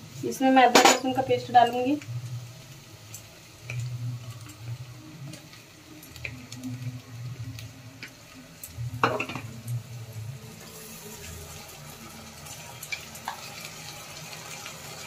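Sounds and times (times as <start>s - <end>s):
onions sizzling in a pot: 0.0s - 15.0s.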